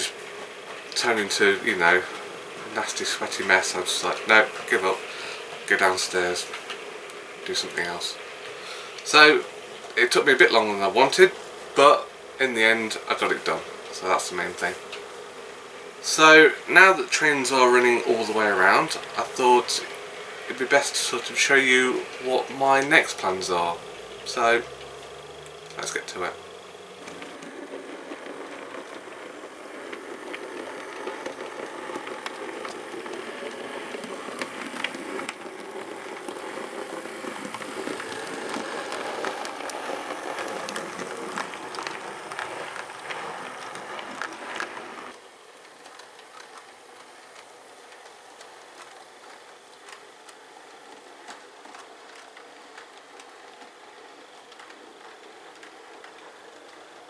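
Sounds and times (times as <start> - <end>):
model train rattling on track: 0.0 - 57.0.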